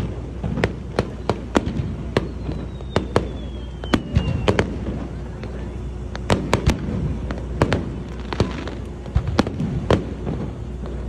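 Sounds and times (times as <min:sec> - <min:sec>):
fireworks bangs: 0:00.0 - 0:11.0
low background rumble: 0:00.0 - 0:11.0.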